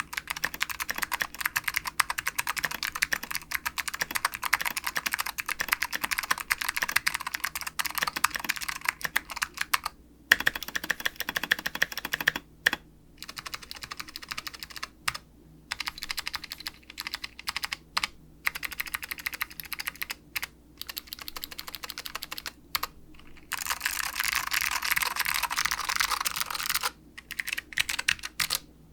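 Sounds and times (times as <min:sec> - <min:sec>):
mechanical keyboard typing: 0:00.0 - 0:28.6.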